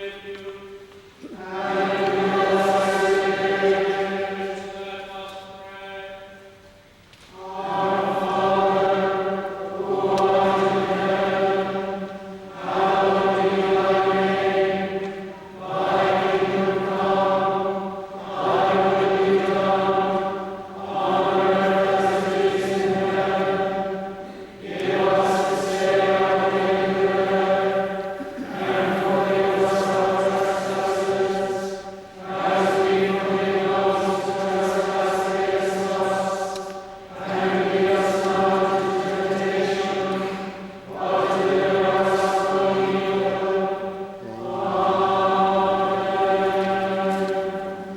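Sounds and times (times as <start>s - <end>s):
choir chanting in unison: 0.0s - 6.6s, 7.3s - 47.9s.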